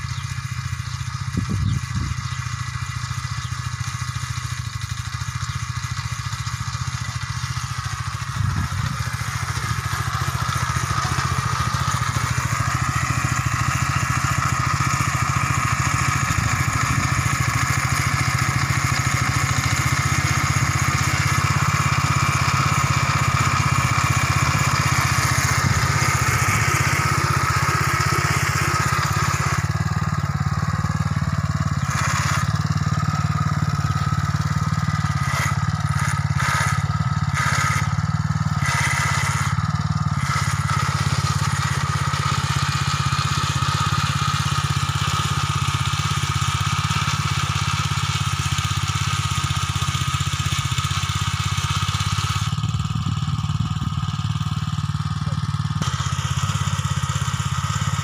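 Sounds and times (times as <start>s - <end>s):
cultivator engine running: 0.0s - 58.0s.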